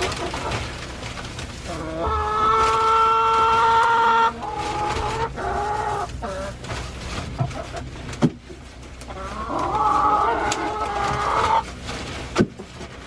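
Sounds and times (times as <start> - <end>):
hens clucking and squawking: 0.0 - 12.4.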